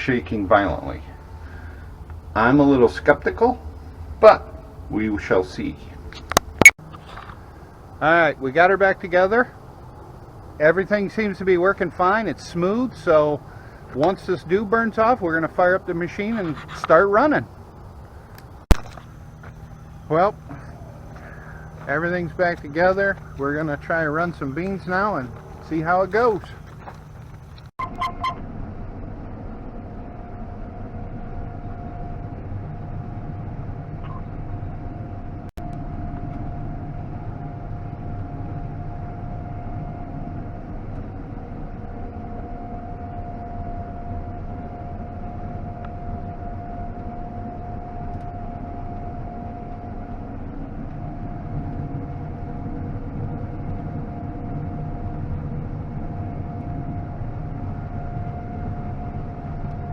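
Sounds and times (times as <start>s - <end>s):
combine harvester drone: 0.0s - 59.9s
high whine: 0.0s - 59.9s.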